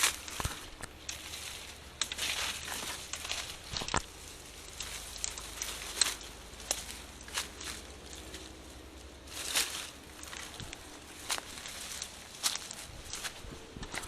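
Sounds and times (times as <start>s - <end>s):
footsteps through dry leaves: 0.0s - 14.0s
twigs snapping: 0.0s - 14.0s.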